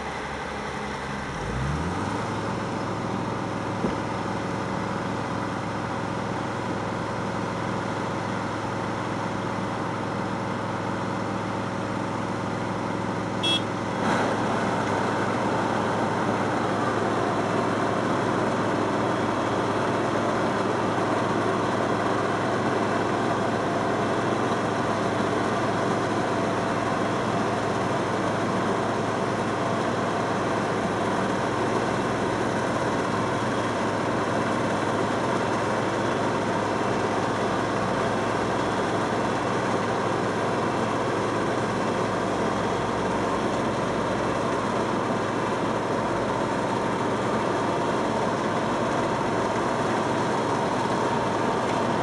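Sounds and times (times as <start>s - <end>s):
diesel engines running: 0.0s - 52.0s.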